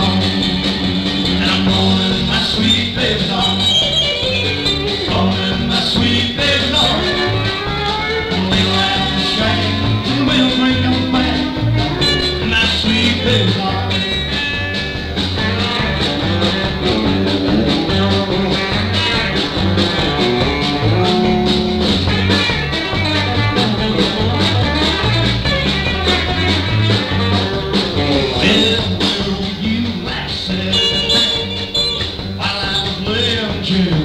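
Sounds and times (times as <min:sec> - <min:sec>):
country band playing live: 0:00.0 - 0:34.0.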